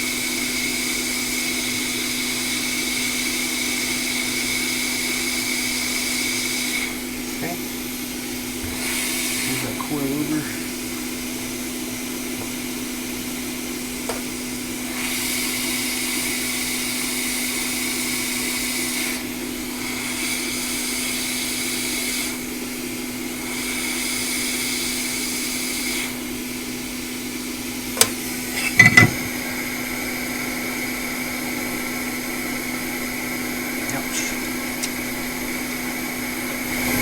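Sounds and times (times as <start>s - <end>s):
hot air blower hissing: 0.0s - 37.0s
steady bench hum: 3.2s - 15.1s, 18.5s - 37.0s.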